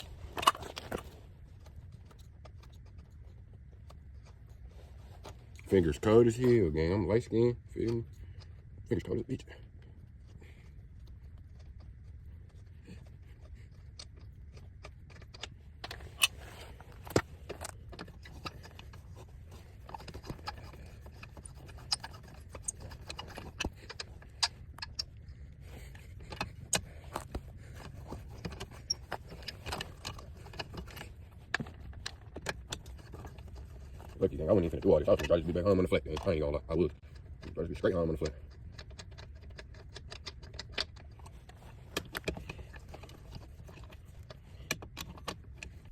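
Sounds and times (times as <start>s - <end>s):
low background rumble: 0.0s - 45.9s.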